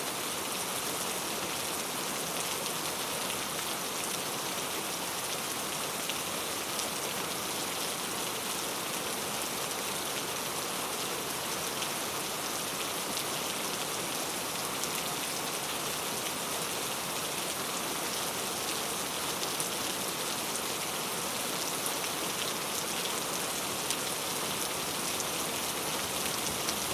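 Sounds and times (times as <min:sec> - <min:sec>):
rain on thatched roof: 0:00.0 - 0:26.9.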